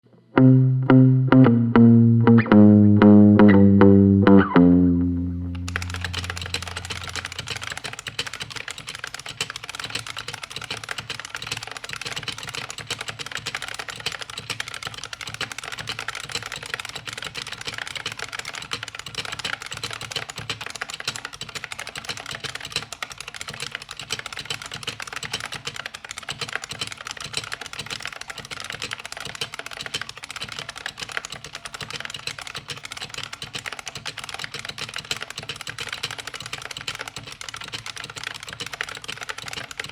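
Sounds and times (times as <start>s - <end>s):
keyboard key clicks: 5.6s - 39.9s.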